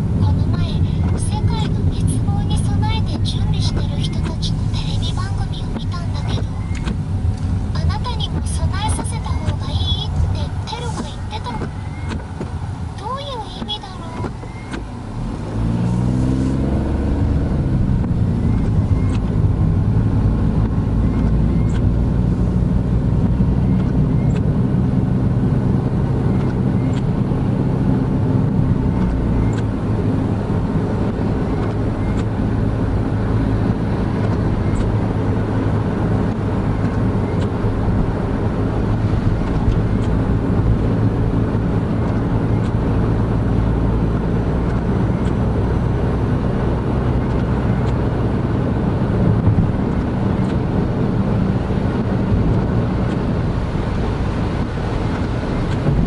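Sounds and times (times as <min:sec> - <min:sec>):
car engine humming: 0:00.0 - 0:56.0
road and tyre noise: 0:00.0 - 0:56.0.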